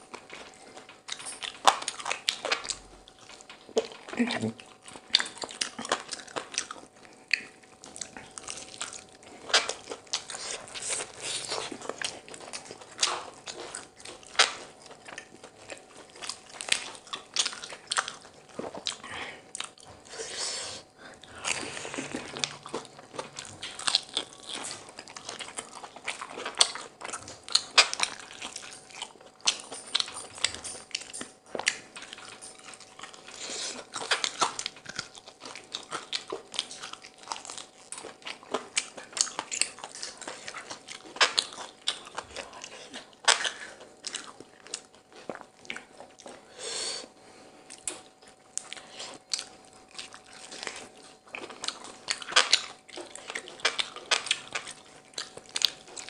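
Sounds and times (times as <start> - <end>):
crunching fried chicken: 0.0 - 20.0, 20.8 - 56.0
chewing: 0.0 - 56.0.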